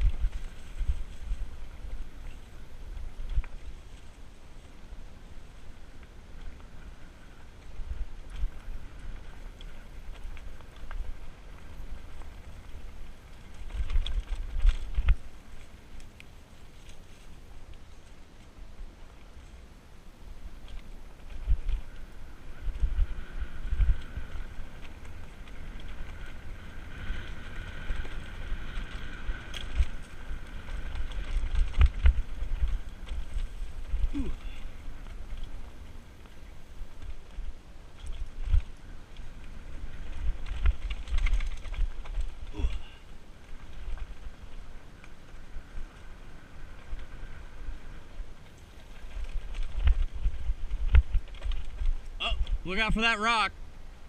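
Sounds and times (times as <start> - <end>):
bike clicks and rattles: 0.0 - 52.6
bike rolling over dirt trail: 0.0 - 54.0
wind rumbling on microphone: 0.0 - 54.0.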